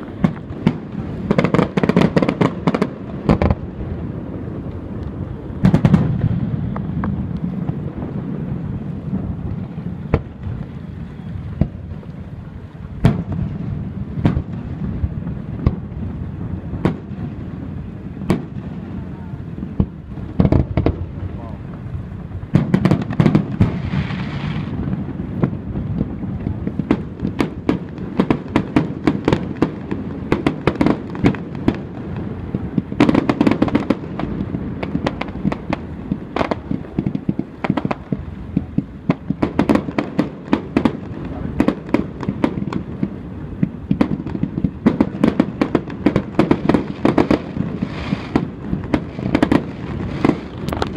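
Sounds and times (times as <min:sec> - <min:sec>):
fireworks popping and crackling: 0:00.0 - 0:50.9.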